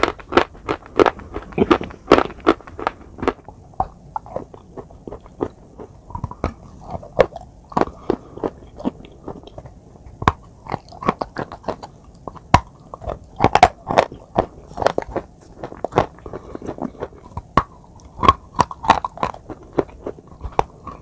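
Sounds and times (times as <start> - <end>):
crunching a hard clay bar: 0.0 - 21.0.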